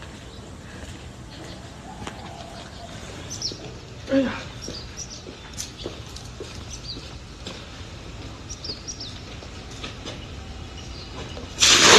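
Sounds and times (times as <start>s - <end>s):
faint footsteps: 0.0s - 11.5s
small birds chirping: 0.0s - 11.6s.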